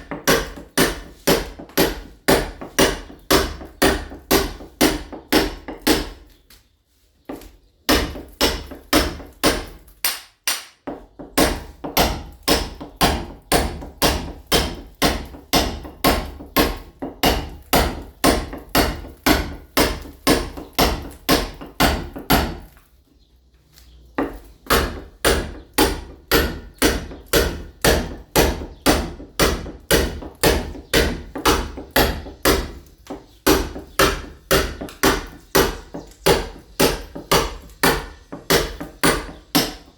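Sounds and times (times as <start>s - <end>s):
hammer striking chisel on masonry: 0.0s - 6.4s, 7.3s - 22.8s, 24.2s - 39.9s.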